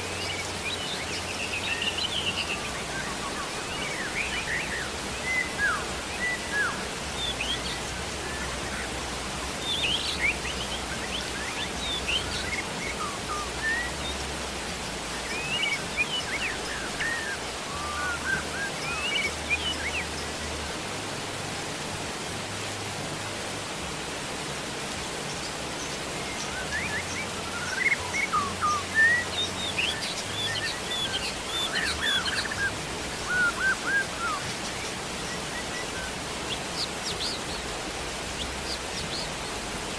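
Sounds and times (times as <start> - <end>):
small birds chirping: 0.0 - 20.8, 24.7 - 39.9
steady rain hiss: 0.0 - 39.9.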